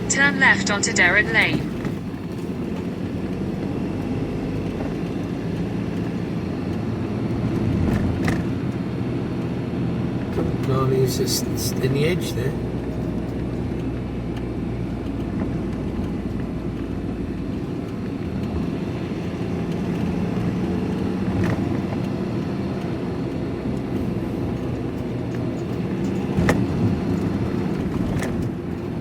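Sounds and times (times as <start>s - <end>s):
van engine and tyre drone: 0.0s - 29.0s.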